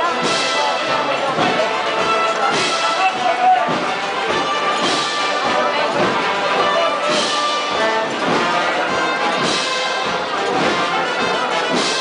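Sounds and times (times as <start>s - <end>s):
brass band playing slow march: 0.0s - 12.0s.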